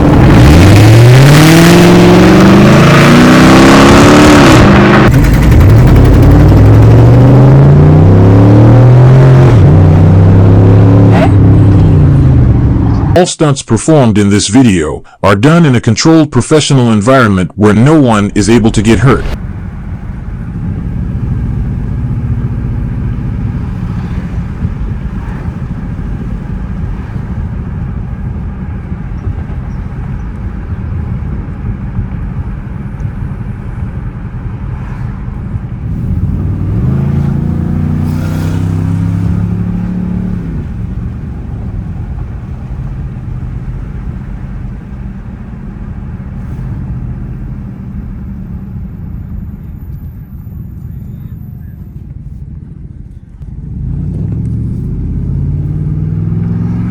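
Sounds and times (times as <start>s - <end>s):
car engine accelerating: 0.0s - 13.2s, 18.1s - 56.9s.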